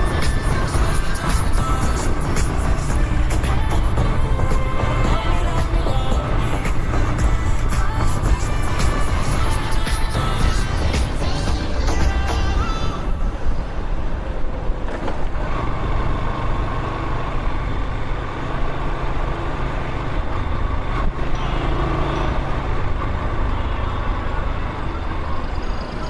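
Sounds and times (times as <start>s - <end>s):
vehicle engines running: 0.0s - 26.0s.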